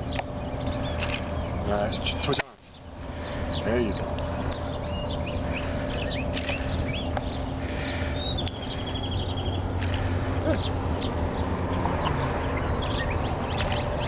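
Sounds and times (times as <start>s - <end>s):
bird trill: 0.0s - 14.0s
birds chirping: 0.0s - 14.0s.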